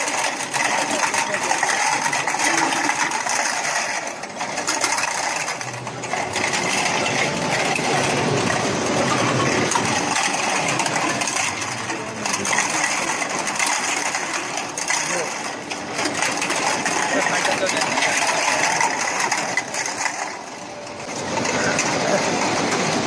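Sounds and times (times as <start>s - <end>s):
plastic bottles clattering: 0.0s - 23.0s
steady machine hum: 0.0s - 23.0s.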